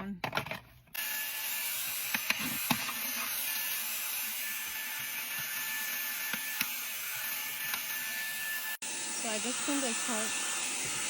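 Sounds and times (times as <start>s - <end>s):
handheld vacuum whirring: 0.9s - 11.0s.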